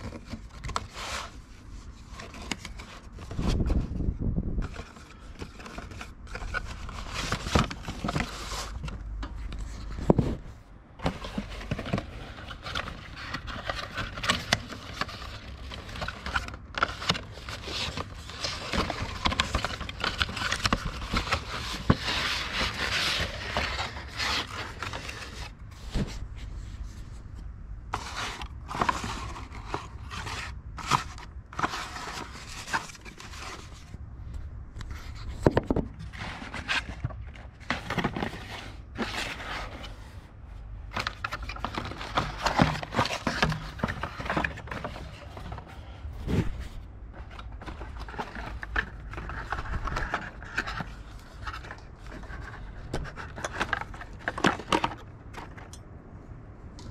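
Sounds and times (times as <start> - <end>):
cardboard rustling and scraping: 0.0 - 34.1, 34.8 - 55.7.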